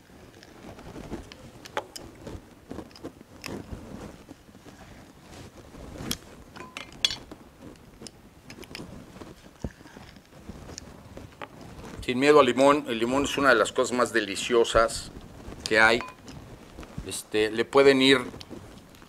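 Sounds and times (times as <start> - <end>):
handling noise: 0.0 - 19.0.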